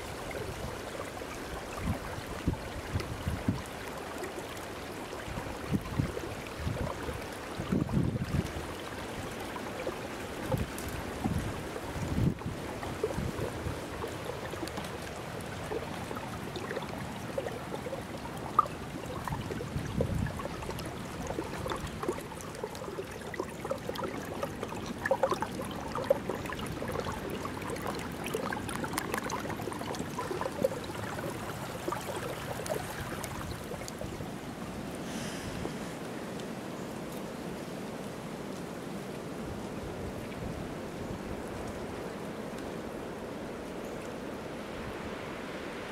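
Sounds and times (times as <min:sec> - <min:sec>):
brook gurgling over rocks: 0:00.0 - 0:45.9
small water splashes: 0:00.0 - 0:45.9.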